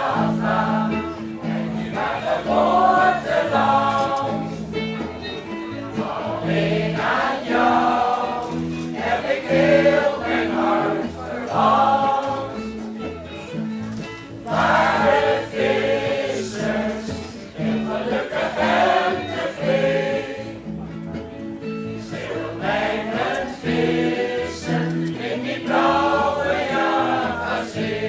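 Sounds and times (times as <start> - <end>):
choir singing: 0.0 - 5.1, 5.8 - 12.9, 14.4 - 20.9, 22.0 - 28.0.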